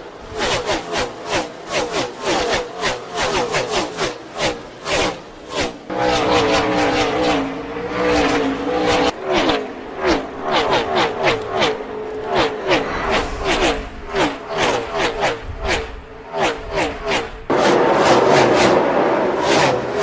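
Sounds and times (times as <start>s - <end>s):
race cars passing at speed: 0.8s - 20.0s.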